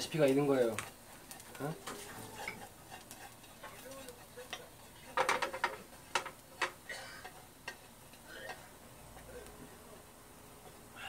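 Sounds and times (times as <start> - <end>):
chopsticks scraping a frying pan: 0.0 - 9.4.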